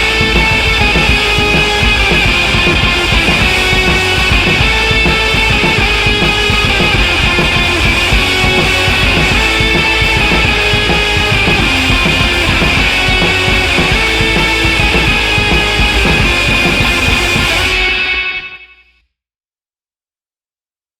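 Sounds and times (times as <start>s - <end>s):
rock music with guitar: 0.0s - 18.7s.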